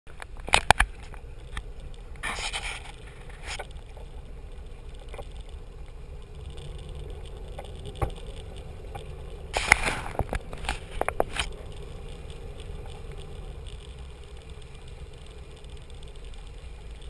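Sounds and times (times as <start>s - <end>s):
boat engine rumble: 0.1s - 17.0s
faint steady hum: 0.1s - 17.0s.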